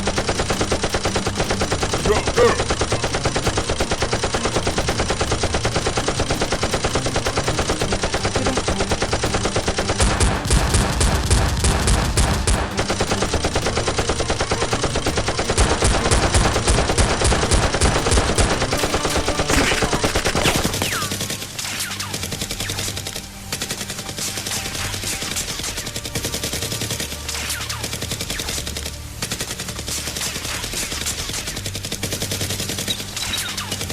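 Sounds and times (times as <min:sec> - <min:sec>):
rapid automatic gunfire: 0:00.0 - 0:33.9.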